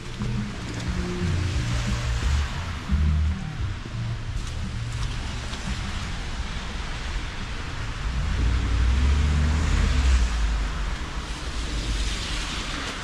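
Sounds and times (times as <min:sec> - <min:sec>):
vehicle passing on wet street: 0:00.0 - 0:13.0.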